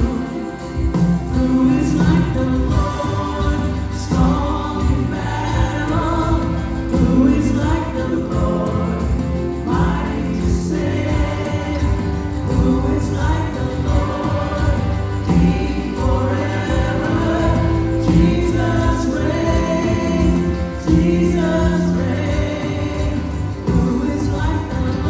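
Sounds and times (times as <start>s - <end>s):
choir singing gospel: 0.0s - 25.0s
instrumental accompaniment: 0.0s - 25.0s.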